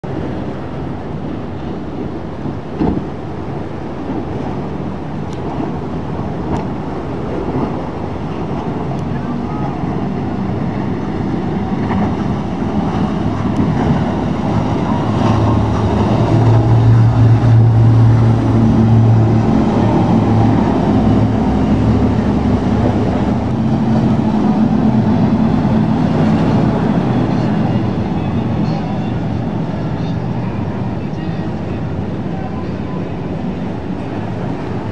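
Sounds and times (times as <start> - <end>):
outboard boat engines droning: 0.0 - 34.9
rushing water and spray: 0.0 - 34.9.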